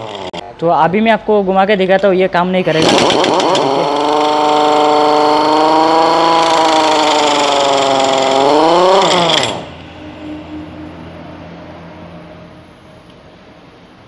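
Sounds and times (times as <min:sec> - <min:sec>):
air gun spinning alternator whine: 0:00.0 - 0:00.4, 0:02.6 - 0:13.5.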